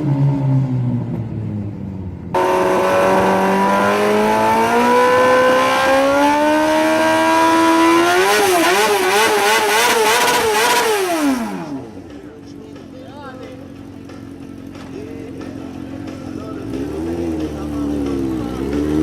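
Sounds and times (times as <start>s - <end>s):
go-kart engine revving: 2.3s - 19.0s.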